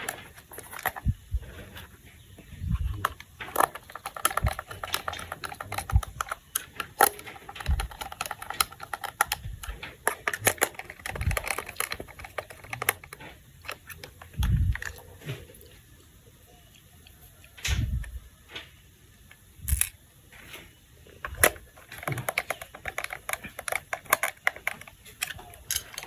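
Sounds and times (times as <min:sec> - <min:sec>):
plastic parts clicking: 0:00.0 - 0:02.0, 0:02.8 - 0:15.1, 0:16.8 - 0:20.0, 0:21.2 - 0:26.0.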